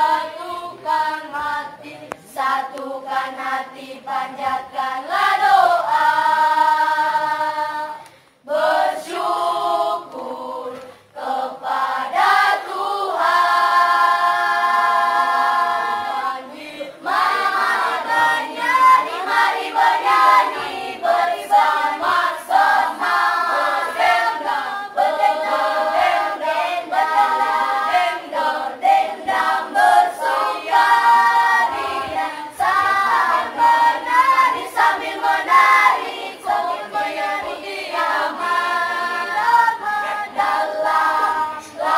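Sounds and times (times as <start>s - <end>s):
children's choir singing: 0.0s - 41.9s.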